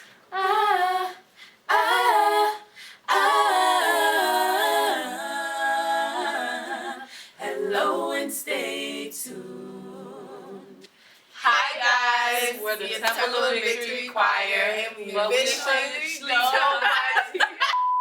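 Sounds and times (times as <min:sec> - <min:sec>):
women singing a cappella: 0:00.0 - 0:17.6.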